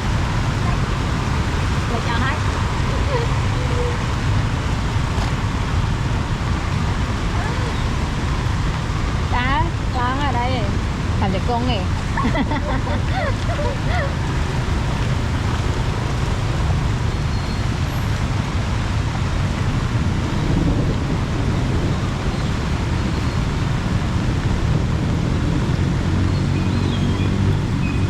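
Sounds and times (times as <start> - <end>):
heavy rain: 0.0 - 28.0
road traffic: 0.0 - 28.0.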